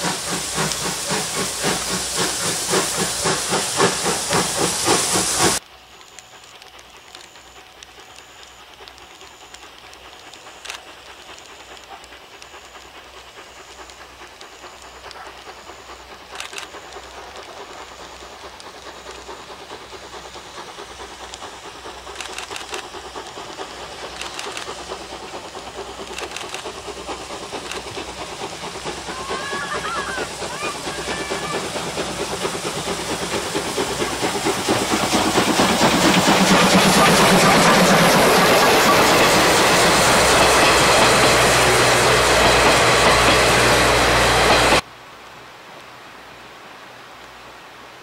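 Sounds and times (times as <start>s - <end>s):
steam locomotive exhaust beating: 0.0s - 44.9s.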